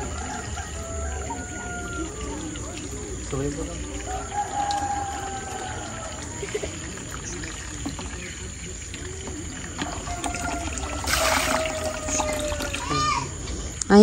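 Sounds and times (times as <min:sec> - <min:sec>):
water splash: 0:00.0 - 0:13.4
water trickling into a basin: 0:00.0 - 0:14.0.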